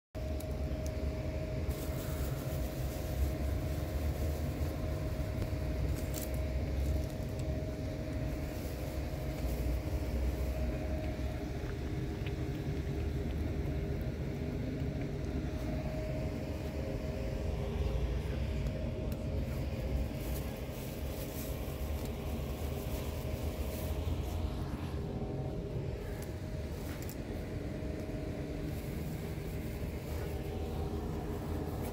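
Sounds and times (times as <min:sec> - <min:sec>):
faint steady hum: 0:00.2 - 0:31.9
road traffic rumble: 0:00.2 - 0:31.9.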